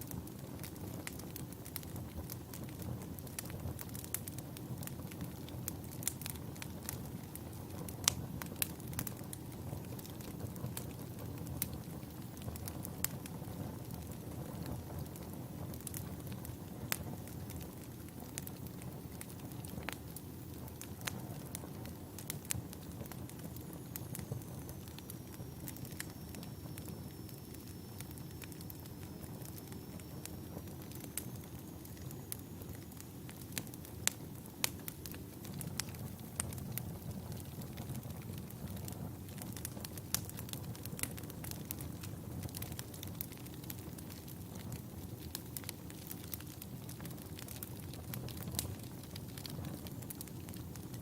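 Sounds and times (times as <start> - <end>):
low rumble of burning logs: 0.0 - 51.0
wood fire crackling and popping: 0.0 - 51.0.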